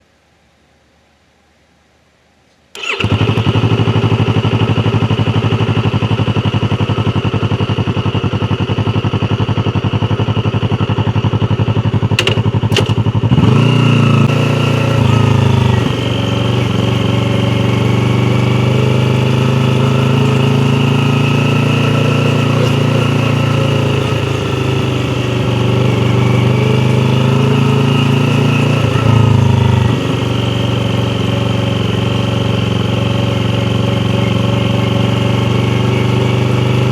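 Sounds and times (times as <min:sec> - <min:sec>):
motorcycle engine idling: 0:02.8 - 0:36.9
motorcycle engine revving: 0:02.8 - 0:36.9.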